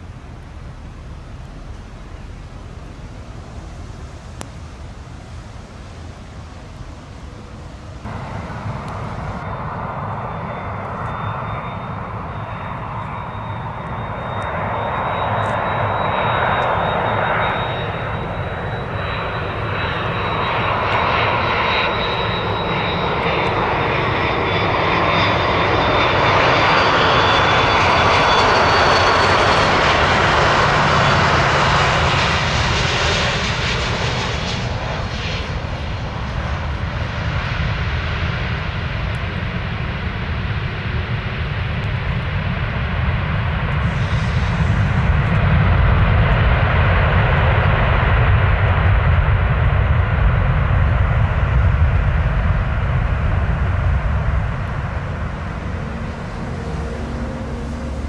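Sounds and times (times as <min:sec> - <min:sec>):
jet engine whine and roar: 0:00.0 - 0:58.0.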